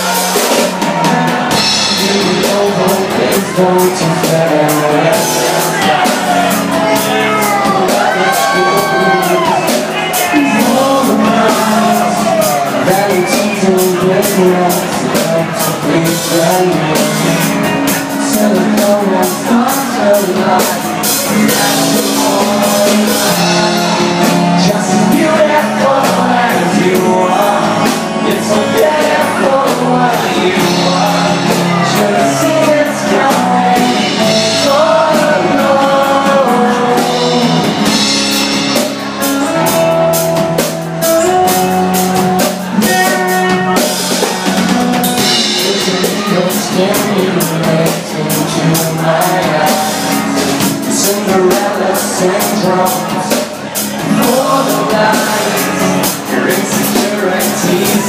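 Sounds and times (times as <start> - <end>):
bass guitar: 0.0 - 58.0
drums: 0.0 - 58.0
man singing: 0.0 - 58.0.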